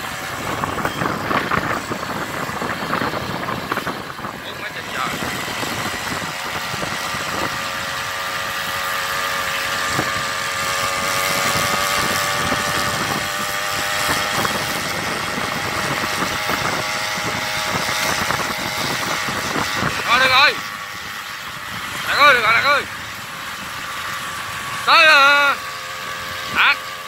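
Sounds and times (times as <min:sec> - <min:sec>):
small engine buzzing: 0:00.0 - 0:27.0.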